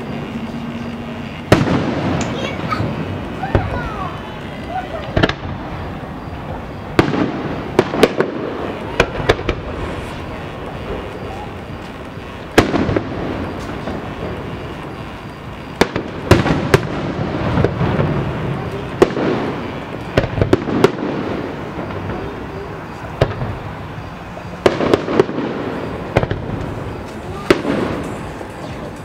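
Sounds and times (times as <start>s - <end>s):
fireworks booming with echoing rumble: 0.0s - 29.0s.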